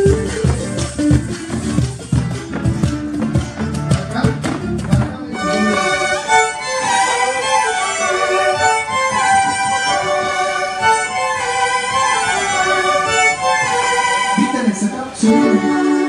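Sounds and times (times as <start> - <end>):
band accompaniment: 0.0 - 16.0
violins playing melody: 0.0 - 16.0.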